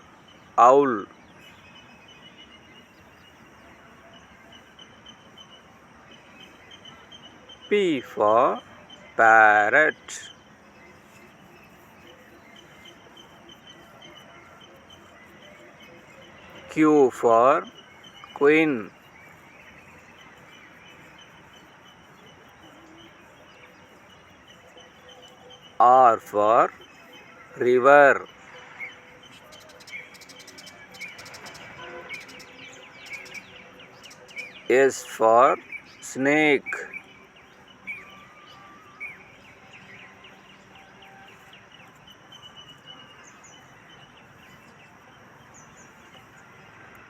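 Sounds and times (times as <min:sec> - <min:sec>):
birds chirping: 0:00.0 - 0:47.0
insect-like noise: 0:00.0 - 0:47.0
outdoor background hiss: 0:00.0 - 0:47.0.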